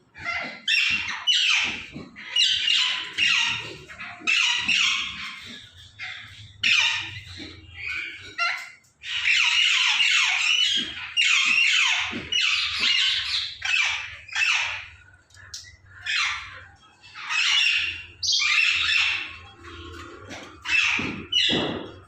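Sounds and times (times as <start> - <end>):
parrots squawking: 0.0 - 22.0.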